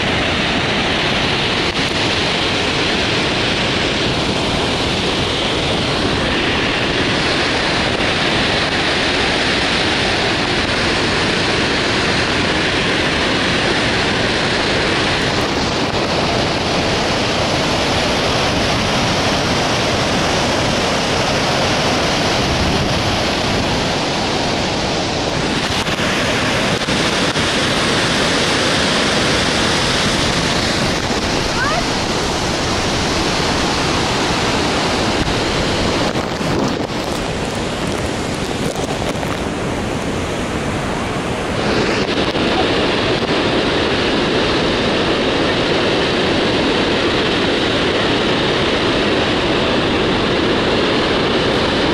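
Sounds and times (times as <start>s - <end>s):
waterfall thundering: 0.0s - 51.9s
wind buffeting microphone: 0.0s - 51.9s.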